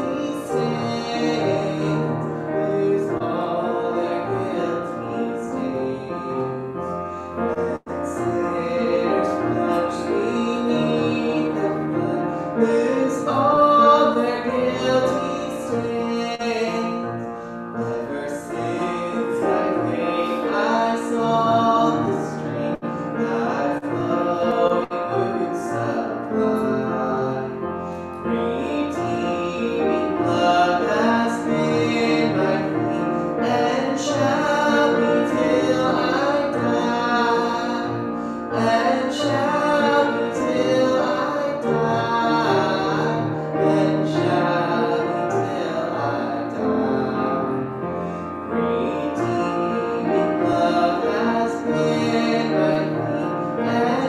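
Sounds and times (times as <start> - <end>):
person singing: 0.0 - 54.0
upright piano playing: 0.0 - 54.0.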